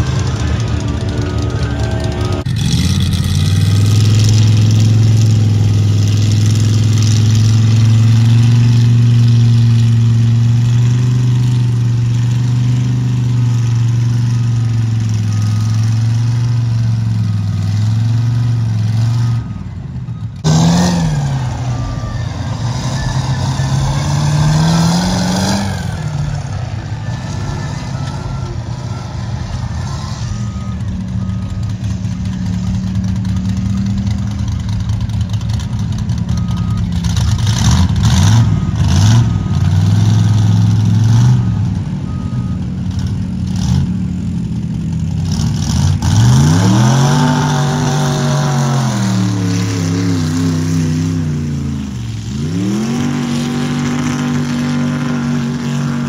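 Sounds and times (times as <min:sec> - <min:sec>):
truck engine running and revving: 0:00.0 - 0:56.0.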